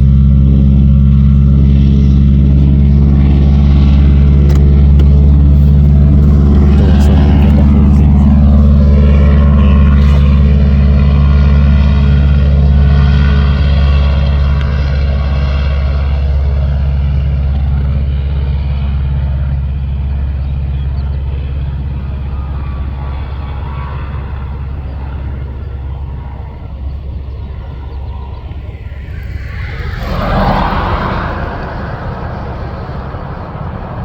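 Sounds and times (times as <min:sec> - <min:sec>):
propeller plane engine: 0:00.0 - 0:34.0.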